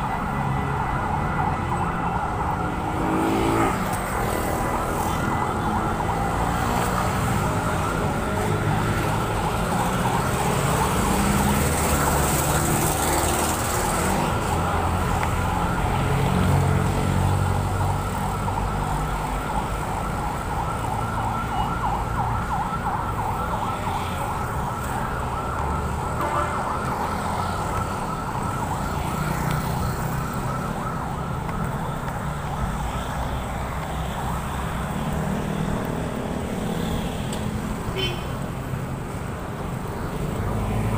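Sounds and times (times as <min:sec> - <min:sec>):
road traffic passing: 0:00.0 - 0:40.9.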